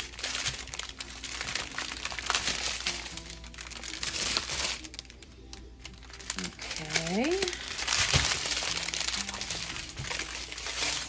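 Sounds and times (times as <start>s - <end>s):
plastic bags crinkling: 0.0s - 11.0s
quiet background music: 0.0s - 11.0s.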